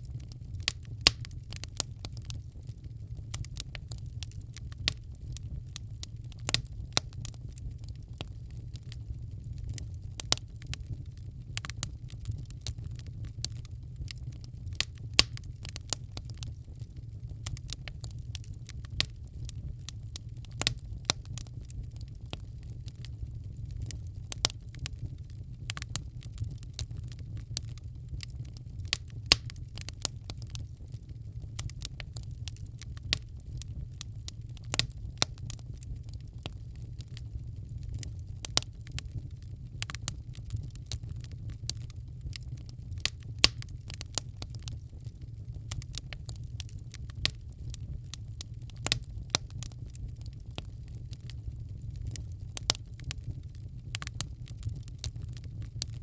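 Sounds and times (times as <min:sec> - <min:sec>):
fire pops and snaps: 0:00.0 - 0:56.0
low rumble of flames: 0:00.0 - 0:56.0
wood fire crackling: 0:00.0 - 0:56.0.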